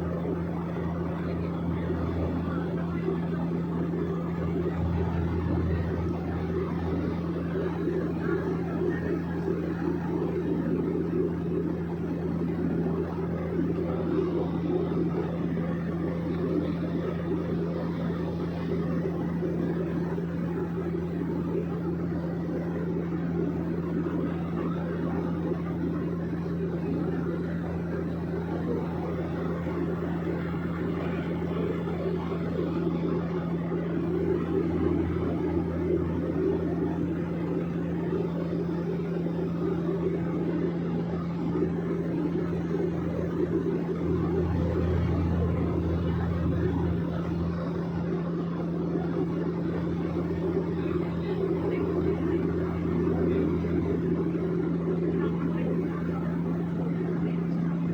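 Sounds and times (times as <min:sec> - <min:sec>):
airplane engine and propeller drone: 0:00.0 - 0:57.9.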